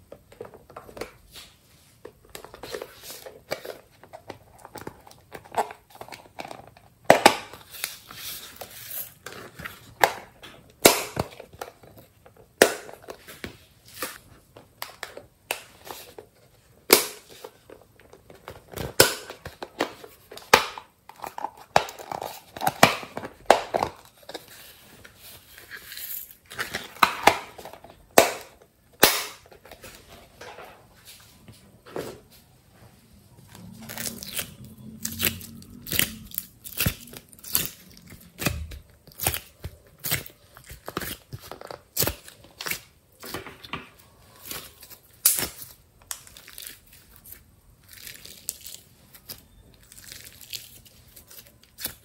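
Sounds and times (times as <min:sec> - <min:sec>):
plastic crackling and rustling: 0:00.0 - 0:32.5, 0:33.4 - 0:52.0.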